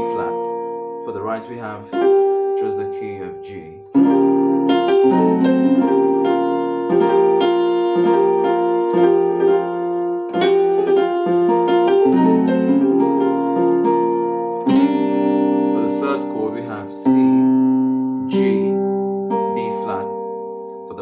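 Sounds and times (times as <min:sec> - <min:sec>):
piano chords on keyboard: 0:00.0 - 0:21.0.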